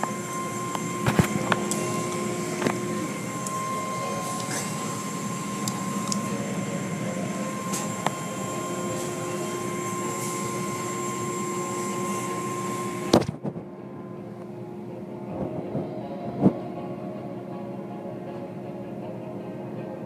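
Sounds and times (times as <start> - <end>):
car wash machinery whine: 0.0 - 20.0.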